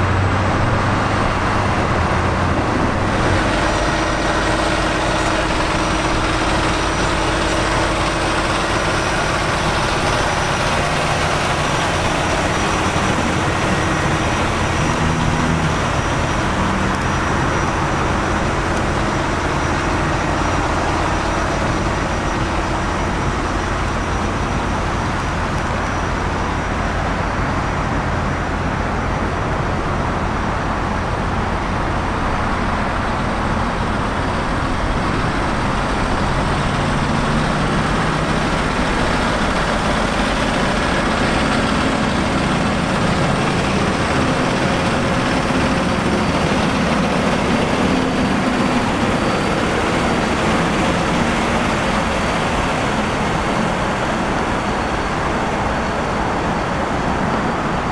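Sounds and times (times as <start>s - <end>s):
road traffic noise: 0.0s - 57.9s
truck engines humming: 0.0s - 57.9s.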